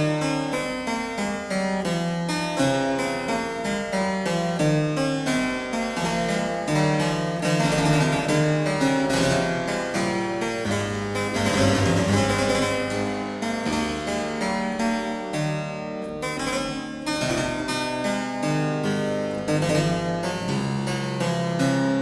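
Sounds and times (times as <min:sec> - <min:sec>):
harpsichord music: 0:00.0 - 0:22.0.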